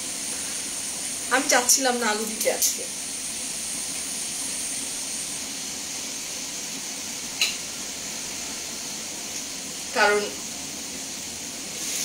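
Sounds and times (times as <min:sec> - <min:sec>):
gas burners hissing: 0:00.0 - 0:12.0
pots simmering: 0:00.0 - 0:12.0.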